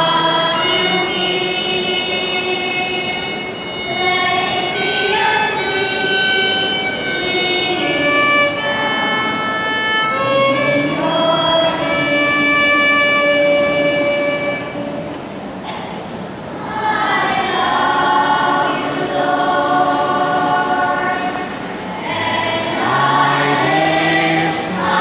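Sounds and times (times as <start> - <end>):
slow instrumental worship music: 0.0 - 25.0.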